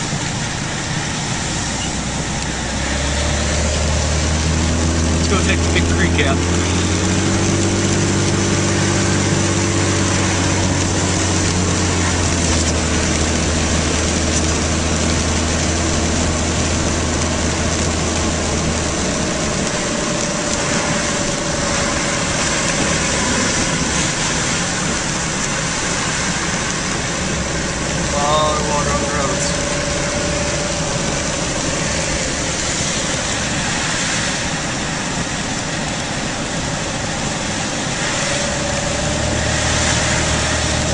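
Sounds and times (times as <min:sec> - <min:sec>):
car engine hum from inside: 0:00.0 - 0:40.9.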